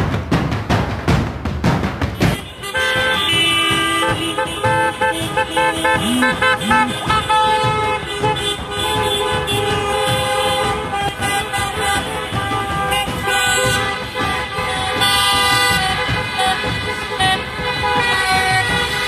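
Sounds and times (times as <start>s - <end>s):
car horns honking: 2.2s - 19.0s
engine and tyre noise: 2.2s - 19.0s.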